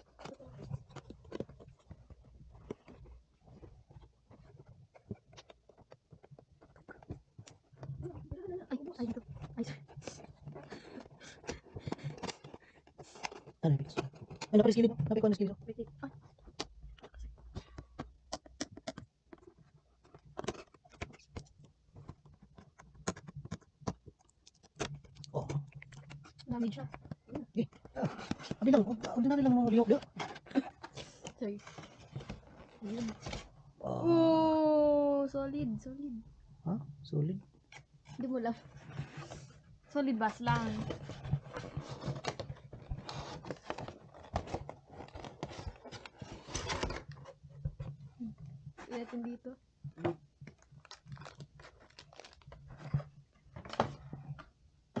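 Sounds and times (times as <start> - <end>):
packaging rustling and crinkling: 0.0 - 15.2, 16.1 - 33.6, 37.8 - 49.2, 50.4 - 55.0.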